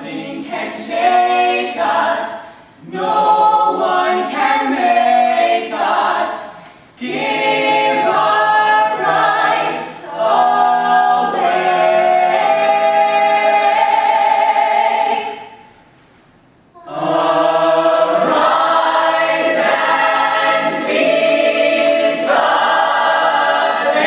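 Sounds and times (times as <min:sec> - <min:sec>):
ensemble singing in harmony: 0:00.0 - 0:15.8, 0:16.7 - 0:24.0.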